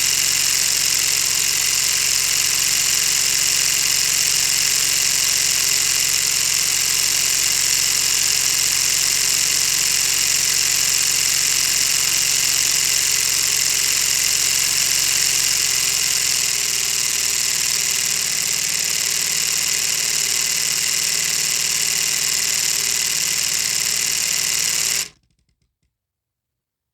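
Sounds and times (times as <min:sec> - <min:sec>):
plastic model engine rattling: 0:00.0 - 0:25.6.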